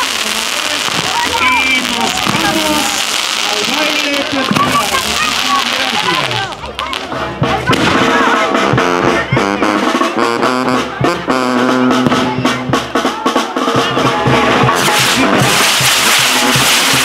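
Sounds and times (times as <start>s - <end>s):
brass band playing: 0.0s - 17.0s
drum beats: 0.0s - 17.0s
horns holding steady notes: 0.0s - 17.0s.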